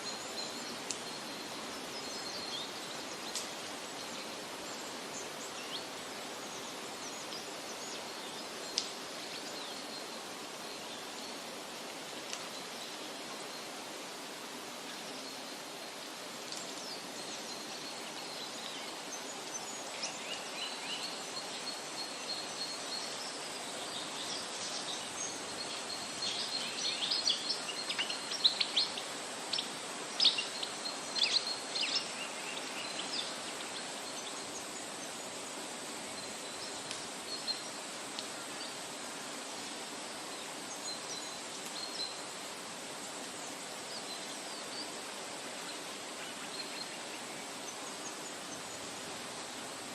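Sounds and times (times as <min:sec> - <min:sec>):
steady background hiss: 0:00.0 - 0:49.9.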